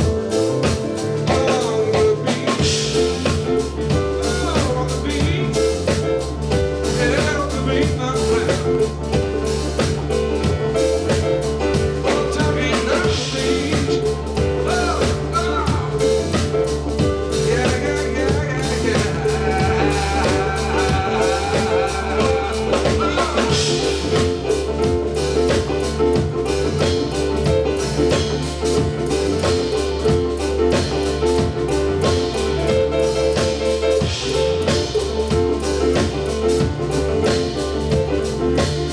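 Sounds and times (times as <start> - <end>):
bass line: 0.0 - 38.9
drum kit beat: 0.0 - 38.9.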